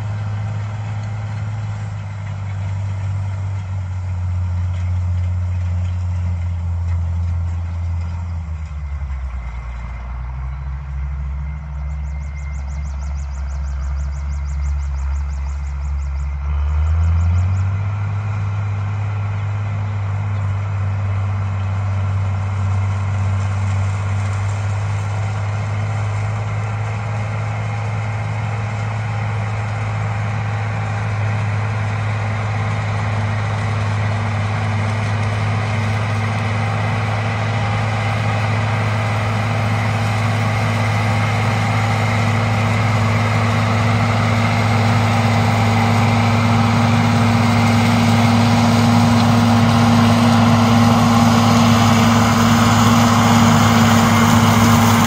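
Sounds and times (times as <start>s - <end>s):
tractor diesel engine: 0.0s - 55.0s.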